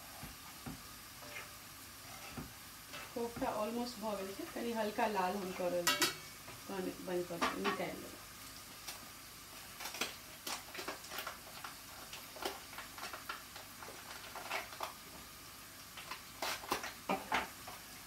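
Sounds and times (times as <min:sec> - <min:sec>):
hot oil crackling and popping: 0:00.0 - 0:18.0.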